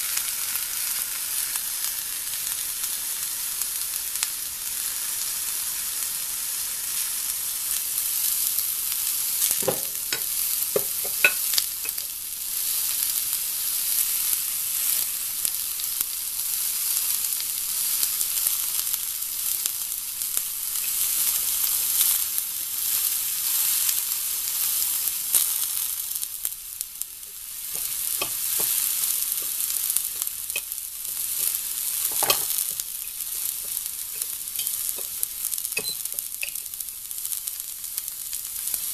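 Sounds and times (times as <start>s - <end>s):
vegetables sizzling in skillet: 0.0s - 38.9s.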